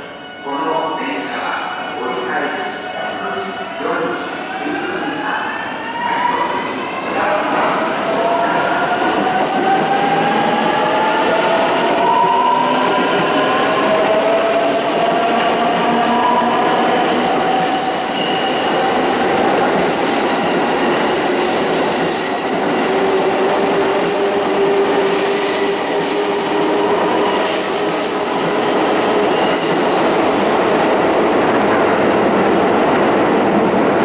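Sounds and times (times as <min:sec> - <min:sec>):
electric train rolling past: 0:00.0 - 0:34.0.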